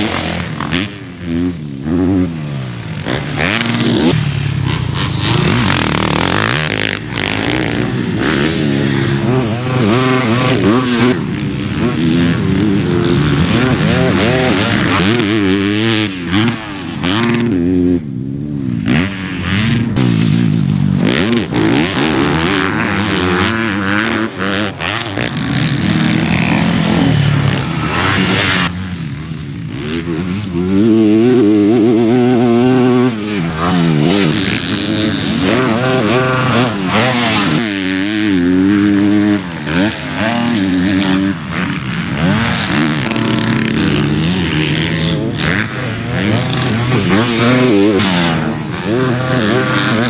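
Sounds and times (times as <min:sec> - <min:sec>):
motocross engines revving: 0:00.0 - 0:50.0.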